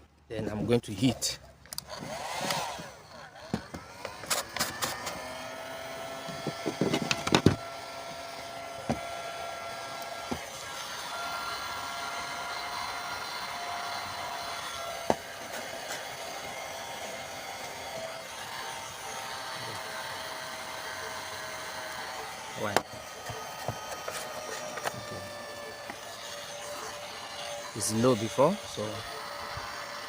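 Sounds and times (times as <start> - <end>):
hot-air blower whirring: 1.7 - 30.0.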